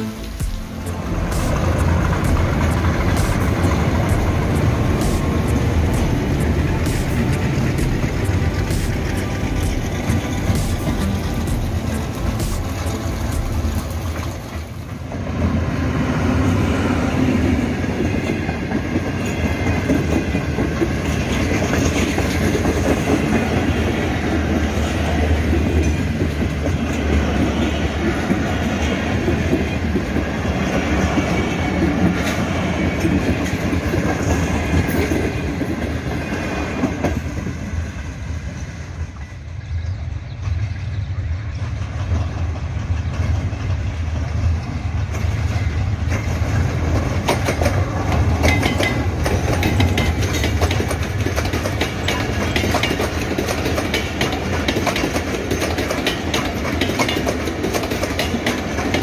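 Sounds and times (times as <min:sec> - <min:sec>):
diesel train running: 0:00.0 - 0:59.0
train wheels clattering over rail joints: 0:00.5 - 0:15.8, 0:17.2 - 0:37.9, 0:38.5 - 0:59.0.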